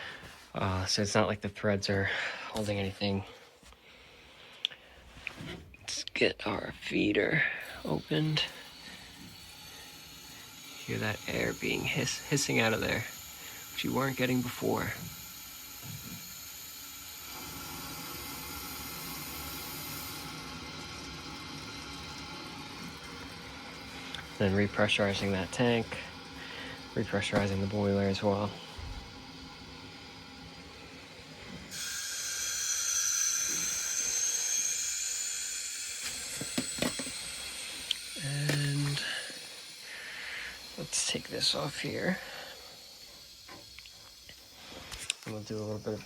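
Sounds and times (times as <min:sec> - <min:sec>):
air hissing from vent: 0:00.0 - 0:00.9, 0:04.4 - 0:46.0.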